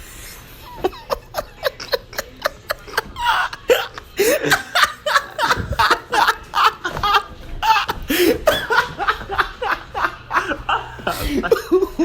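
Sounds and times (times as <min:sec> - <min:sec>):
person laughing hard: 0:00.7 - 0:12.0.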